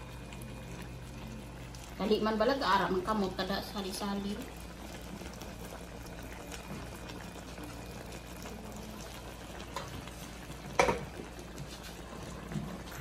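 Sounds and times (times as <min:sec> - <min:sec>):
sauce bubbling in a wok: 0:00.0 - 0:13.0.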